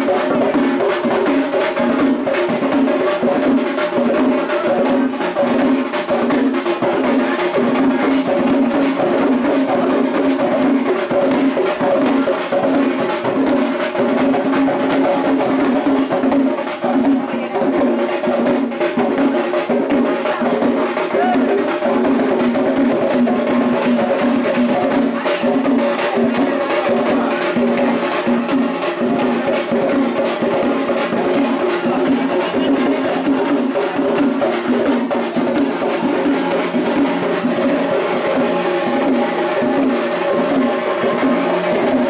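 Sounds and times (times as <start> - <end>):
drums beating steady rhythm: 0.0 - 42.0.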